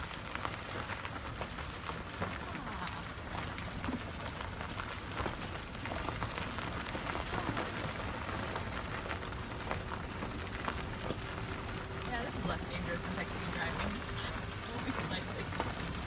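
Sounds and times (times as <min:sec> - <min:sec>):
crunching gravel: 0:00.0 - 0:16.0
steady low rumble: 0:00.2 - 0:16.0.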